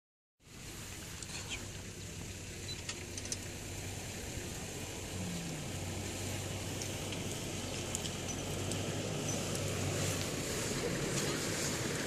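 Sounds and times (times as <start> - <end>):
open-air hiss: 0.4 - 12.0
vehicle engine idling: 0.4 - 12.0.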